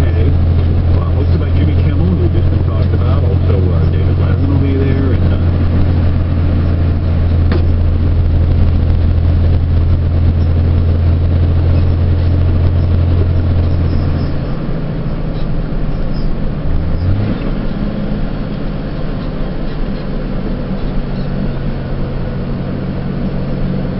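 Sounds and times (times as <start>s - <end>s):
road noise: 0.0s - 23.9s
truck engine drone: 0.0s - 23.9s.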